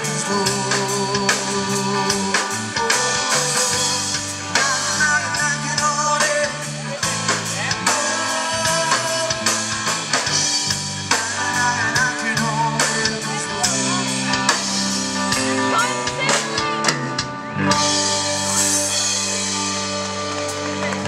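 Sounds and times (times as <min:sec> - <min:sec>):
person singing: 0:00.0 - 0:10.3, 0:11.1 - 0:21.0
live rock band playing: 0:00.0 - 0:21.0.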